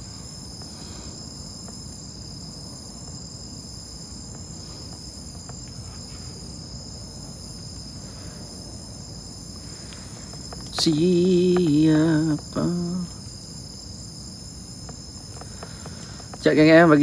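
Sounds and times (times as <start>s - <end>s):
crickets chirping: 0.0s - 17.0s
low background rumble: 0.0s - 17.0s.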